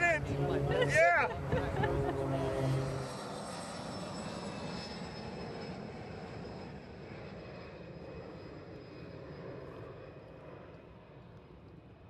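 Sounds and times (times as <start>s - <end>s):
aircraft engine with high whine: 0.0s - 12.0s.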